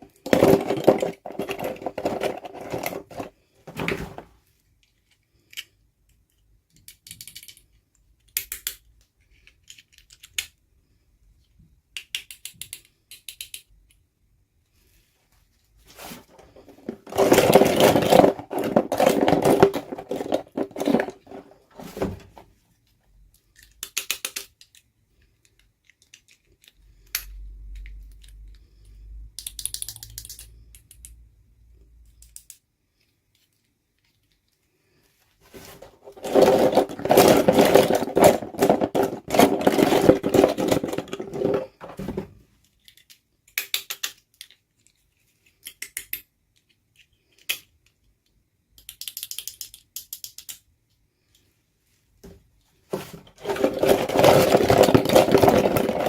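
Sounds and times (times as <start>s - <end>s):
plastic toy parts clicking and rattling: 0.0s - 3.4s, 4.6s - 10.7s, 11.4s - 14.1s, 16.3s - 22.2s, 23.3s - 28.7s, 29.3s - 31.2s, 32.0s - 34.7s, 35.5s - 51.5s, 52.9s - 56.0s.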